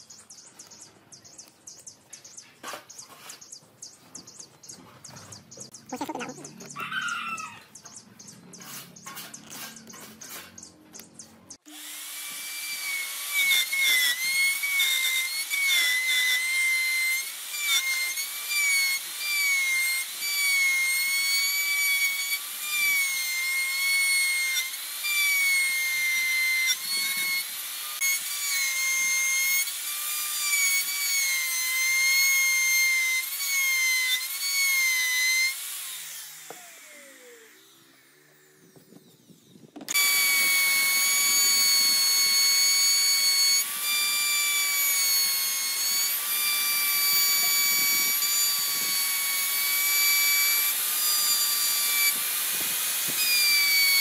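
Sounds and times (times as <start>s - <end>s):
electric router whining: 5.8s - 7.8s, 11.6s - 54.0s.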